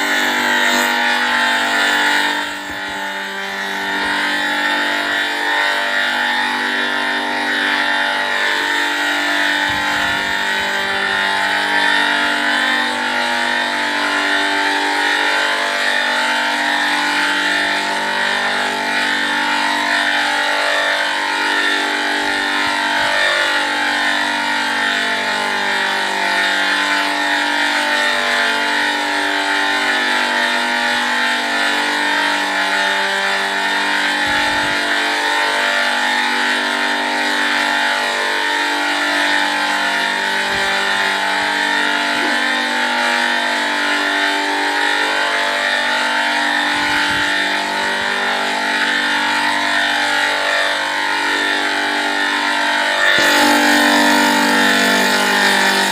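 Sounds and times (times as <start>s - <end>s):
pitch-shifted buzzing drone: 0.0s - 25.8s, 30.9s - 55.9s.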